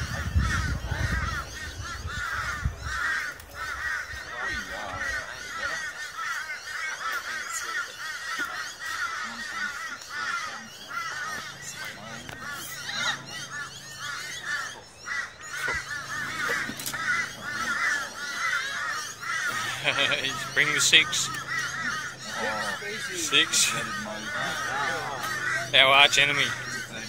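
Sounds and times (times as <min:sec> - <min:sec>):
birds calling: 0:00.0 - 0:27.0.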